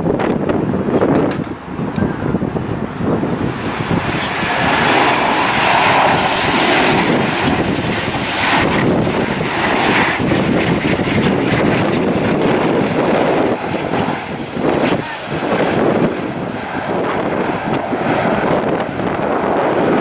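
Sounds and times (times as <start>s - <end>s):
jet airliner engines: 0.0s - 20.0s.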